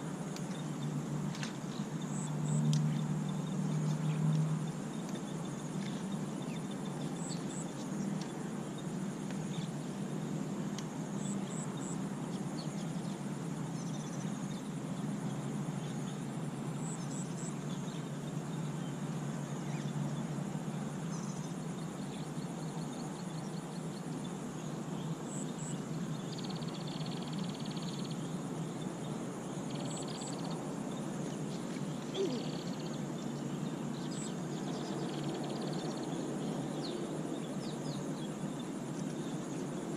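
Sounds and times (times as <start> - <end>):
low hum of wind or water: 0.0 - 39.9.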